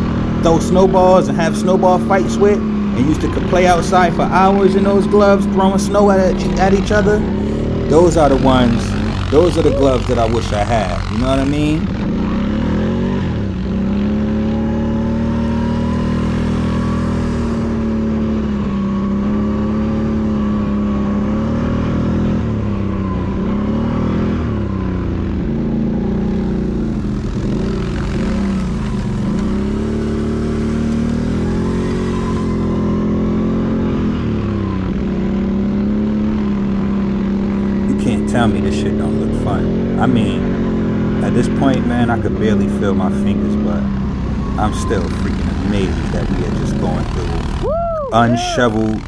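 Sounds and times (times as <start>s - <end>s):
atv engine running: 0.0s - 49.0s.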